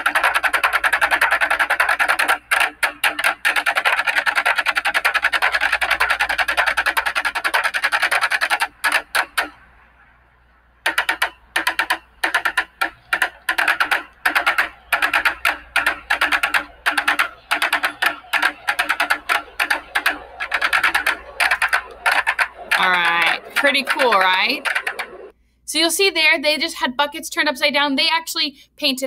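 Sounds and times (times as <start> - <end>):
drumsticks on plastic buckets: 0.0 - 9.6, 10.9 - 25.3.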